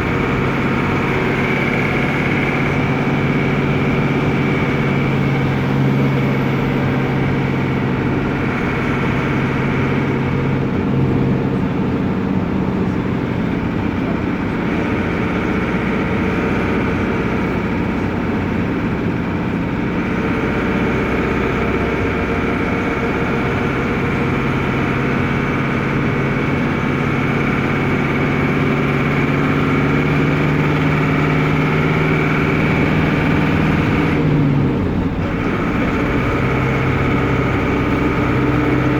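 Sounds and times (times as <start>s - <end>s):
diesel engine inside minibus: 0.0s - 38.9s.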